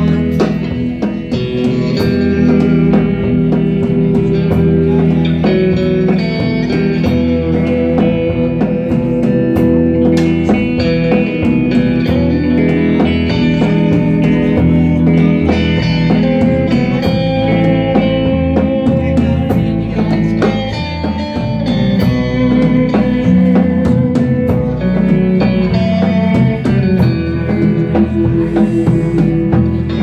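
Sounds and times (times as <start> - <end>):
electric guitars: 0.0 - 30.0
live band playing: 0.0 - 30.0.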